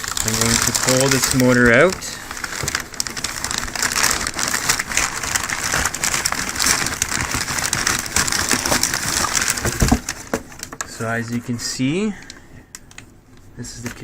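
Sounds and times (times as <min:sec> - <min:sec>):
packaging rustling and crinkling: 0:00.0 - 0:14.0.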